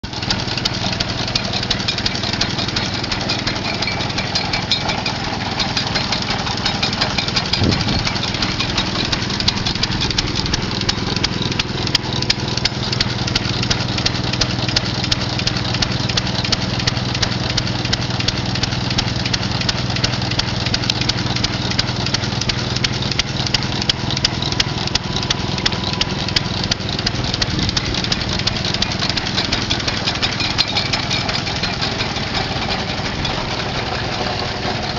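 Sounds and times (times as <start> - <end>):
stationary engine clattering: 0.0 - 34.9.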